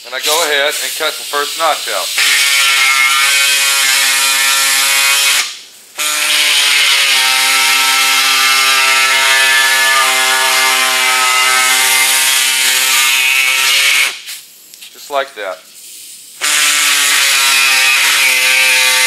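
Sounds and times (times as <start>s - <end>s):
air saw cutting with hiss: 0.0s - 14.5s, 15.8s - 19.0s.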